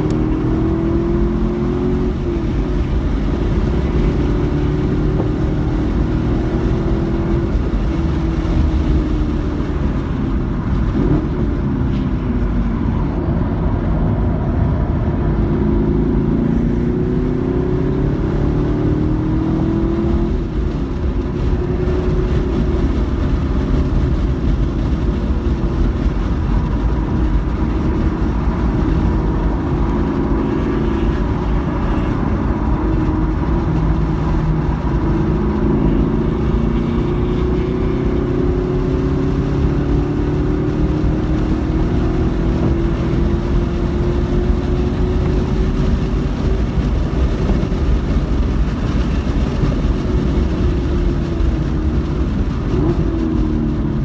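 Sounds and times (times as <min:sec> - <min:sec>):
car engine under load: 0:00.0 - 0:54.0
road and wind noise: 0:00.0 - 0:54.0.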